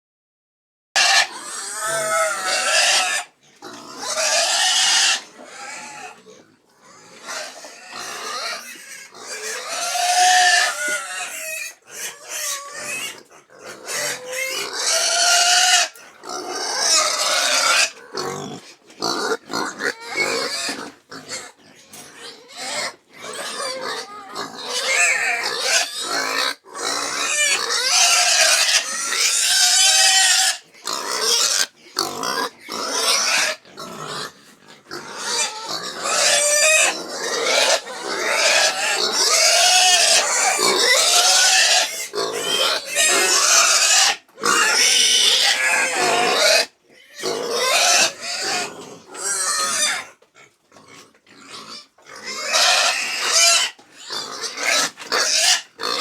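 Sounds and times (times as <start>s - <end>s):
pigs squealing: 1.0s - 56.0s.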